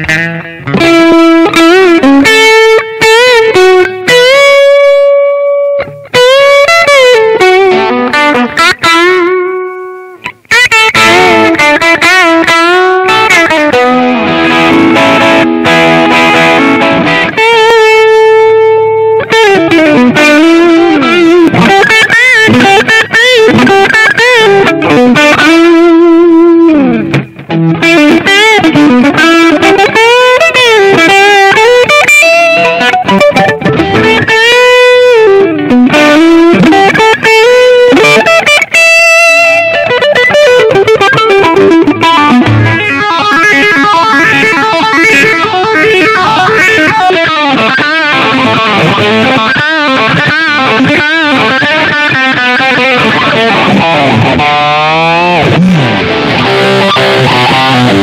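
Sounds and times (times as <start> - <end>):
overdriven electric guitar lead: 0.0 - 58.0.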